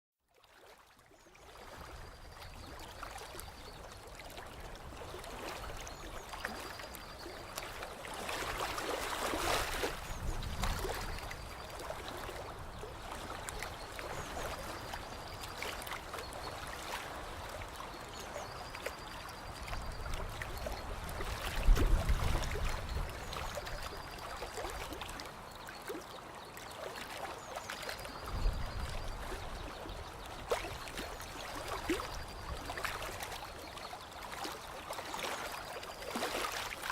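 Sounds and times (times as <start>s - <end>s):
water lapping at shore: 0.3s - 36.9s.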